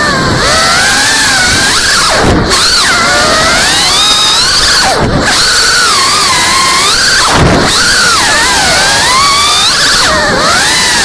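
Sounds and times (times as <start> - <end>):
drone motors whining: 0.0 - 11.0
propeller wind rushing: 0.0 - 11.0.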